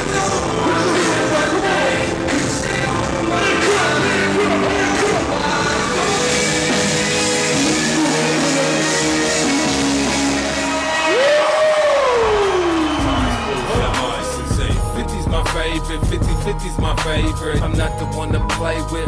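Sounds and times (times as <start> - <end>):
person singing: 0.0 - 10.3, 11.1 - 19.0
rock band music: 0.0 - 19.0.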